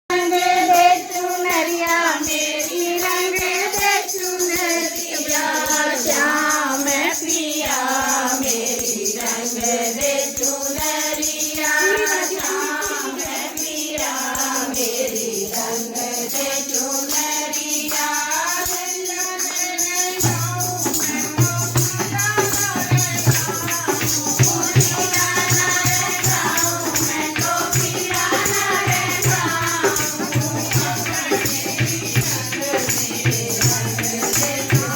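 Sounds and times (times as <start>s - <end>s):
person singing devotional song: 0.1s - 34.9s.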